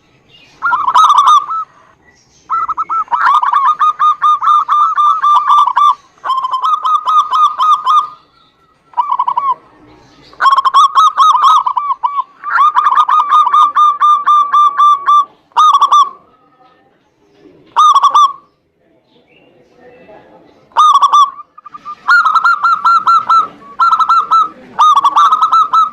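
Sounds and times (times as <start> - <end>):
doves cooing ringing notes: 0.0 - 18.6, 20.6 - 25.9.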